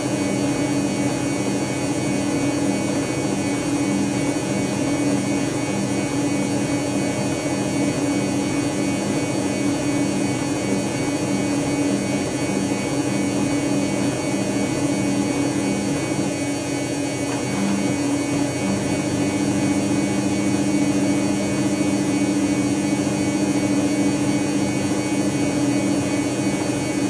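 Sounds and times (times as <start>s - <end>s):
washing machine motor humming: 0.0s - 27.0s.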